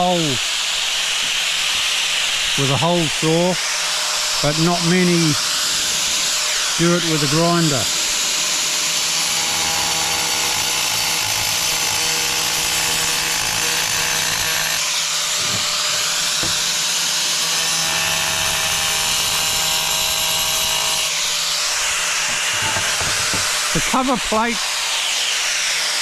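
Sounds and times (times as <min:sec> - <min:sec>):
angle grinder cutting tile: 0:00.6 - 0:26.0.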